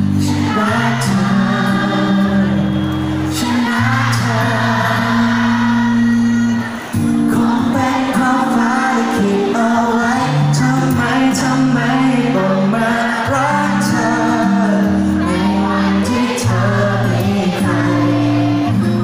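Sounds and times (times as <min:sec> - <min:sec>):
live pop song through speakers: 0:00.0 - 0:19.0.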